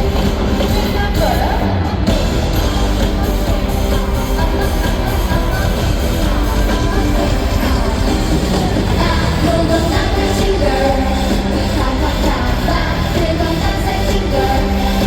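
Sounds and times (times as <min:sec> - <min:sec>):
live pop song with singing: 0:00.0 - 0:15.0.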